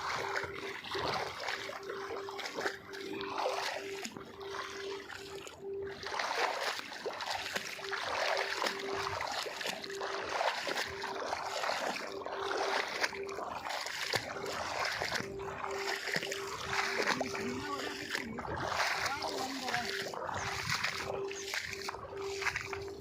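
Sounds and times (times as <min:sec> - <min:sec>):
faint steady tone: 0:00.0 - 0:23.0
water splashing and sloshing: 0:00.0 - 0:23.0.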